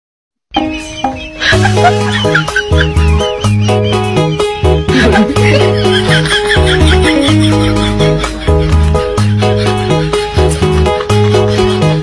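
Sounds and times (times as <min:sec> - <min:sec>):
bass line: 0:01.6 - 0:11.6.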